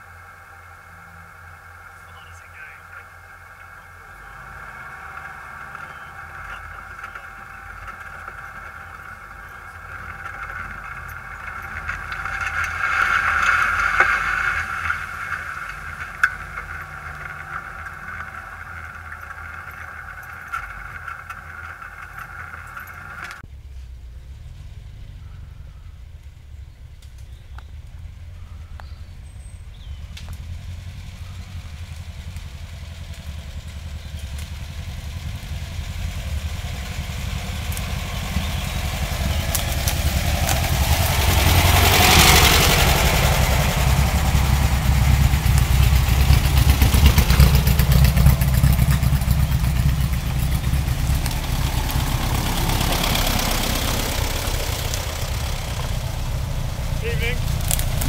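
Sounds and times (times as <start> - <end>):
buggy engine rumble: 0.0 - 58.0
car engine running under load: 0.0 - 58.0.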